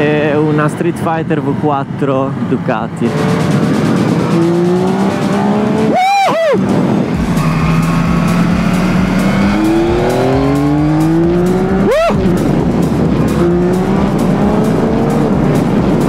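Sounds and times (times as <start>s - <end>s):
motorcycle engines accelerating: 0.0s - 16.0s.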